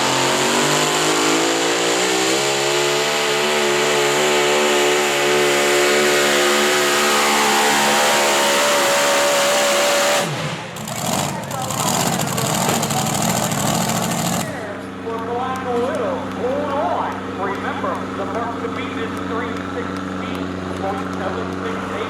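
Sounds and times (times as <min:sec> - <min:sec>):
engine at full throttle under load: 0:00.0 - 0:22.0.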